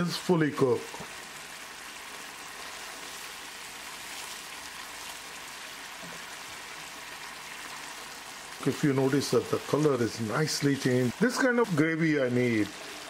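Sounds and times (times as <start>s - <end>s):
gravy bubbling in a pan: 0.0s - 13.0s.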